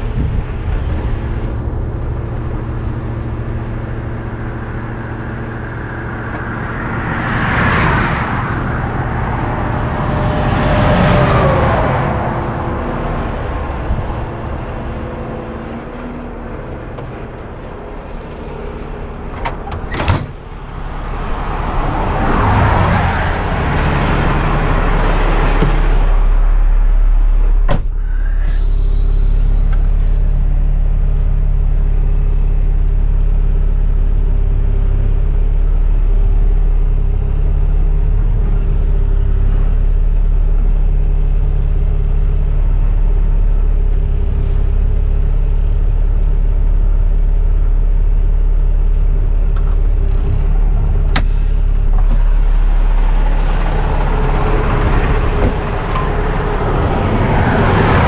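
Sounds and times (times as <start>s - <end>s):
truck cab low rumble: 0.0s - 58.0s
truck engine idling: 0.0s - 58.0s
vehicles passing on highway: 0.0s - 58.0s.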